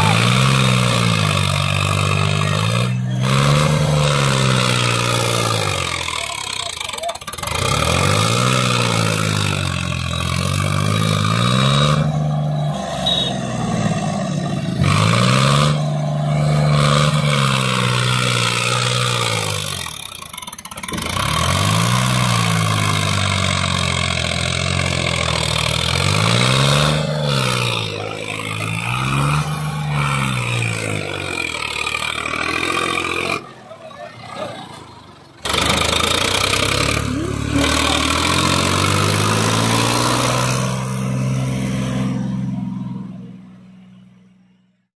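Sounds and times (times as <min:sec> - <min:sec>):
tractor diesel engine revving: 0:00.0 - 0:44.9.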